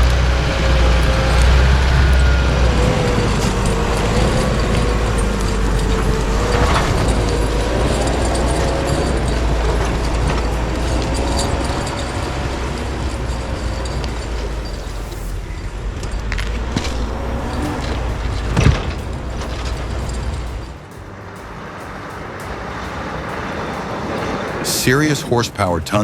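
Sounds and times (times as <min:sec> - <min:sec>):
truck engine rumbling and whining: 0:00.0 - 0:26.0.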